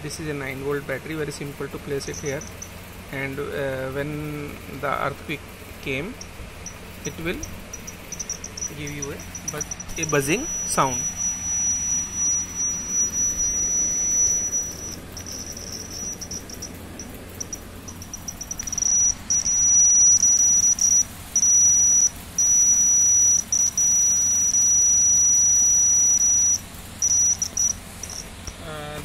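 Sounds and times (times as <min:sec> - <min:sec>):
high-pitched buzzer tone: 0:01.9 - 0:02.8, 0:06.2 - 0:29.0.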